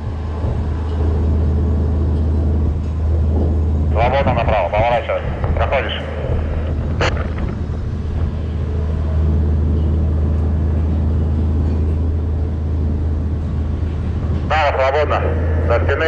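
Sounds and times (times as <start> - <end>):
wind noise: 0.0 - 14.7
crane engine droning: 0.0 - 16.0.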